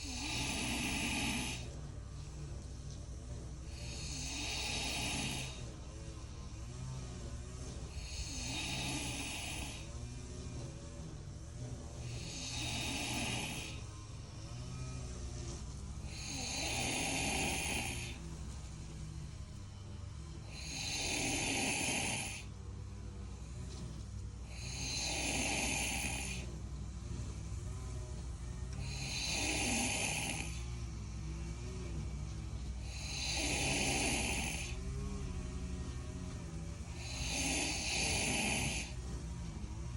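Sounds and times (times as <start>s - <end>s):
man snoring loudly: 0.0s - 2.3s, 3.6s - 10.8s, 11.6s - 18.6s, 20.3s - 22.6s, 23.4s - 26.6s, 28.5s - 39.2s
quiet breathing: 0.0s - 39.9s.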